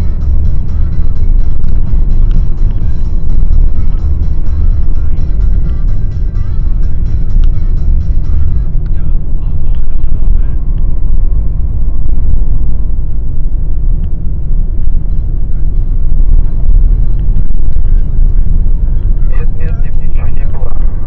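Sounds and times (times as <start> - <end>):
road noise: 0.0 - 21.0
truck engine rumble: 0.0 - 21.0.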